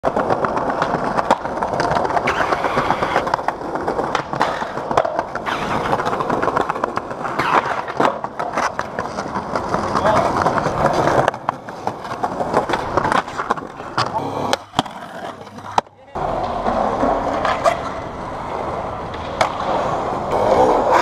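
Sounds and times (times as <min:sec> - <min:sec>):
skateboard tail clacks: 0:00.0 - 0:21.0
skateboard wheels rolling on concrete: 0:00.0 - 0:21.0.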